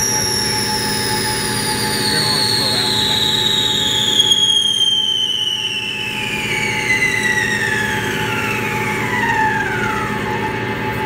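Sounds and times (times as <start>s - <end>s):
lathe tool squealing: 0.0s - 11.0s
machine humming: 0.0s - 11.0s.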